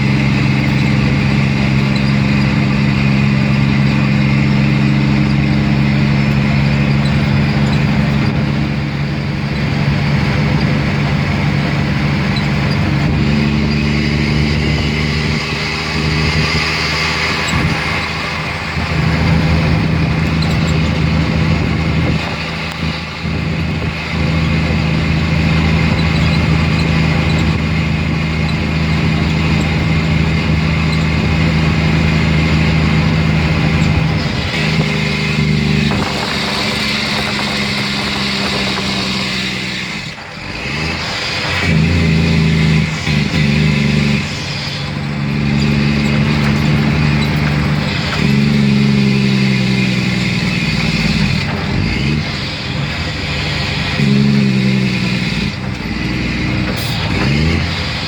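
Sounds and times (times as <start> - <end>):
dump truck diesel engine running: 0.0 - 58.0.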